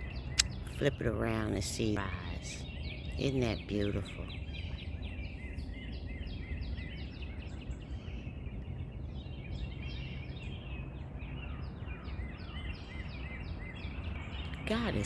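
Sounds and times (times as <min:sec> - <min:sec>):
songbirds singing and chirping: 0:00.0 - 0:15.0.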